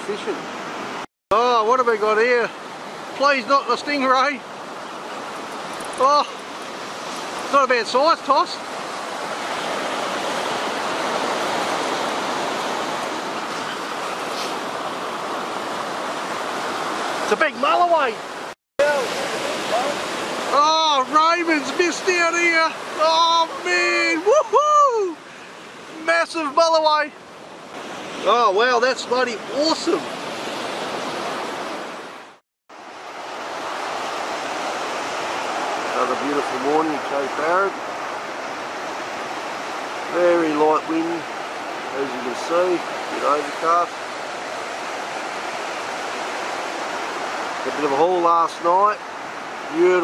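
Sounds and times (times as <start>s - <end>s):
surf breaking on beach: 0.0s - 50.0s.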